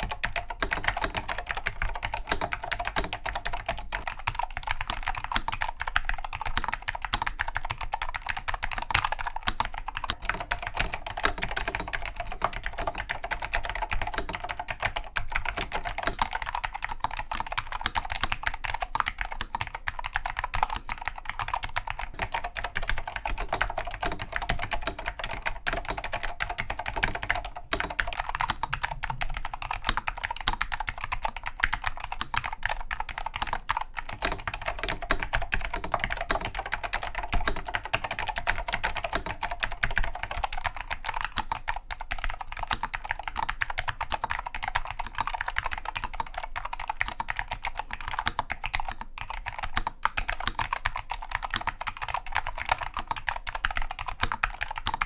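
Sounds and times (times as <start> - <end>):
fast clicky keyboard typing: 0.0 - 55.0.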